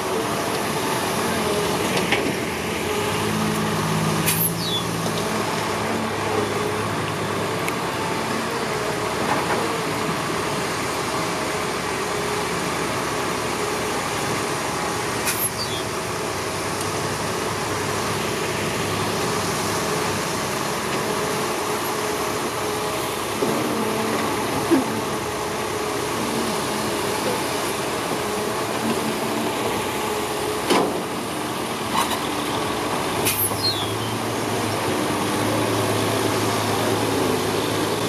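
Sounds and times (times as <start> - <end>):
heavy diesel machinery running: 0.0 - 38.0.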